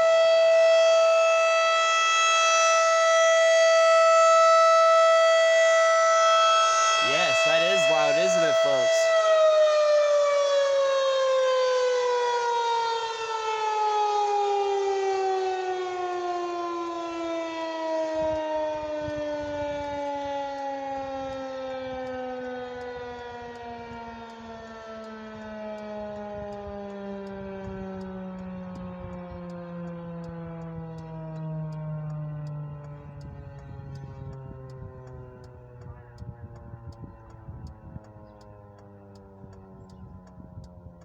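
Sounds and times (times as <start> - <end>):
warning siren winding down: 0.0 - 41.0.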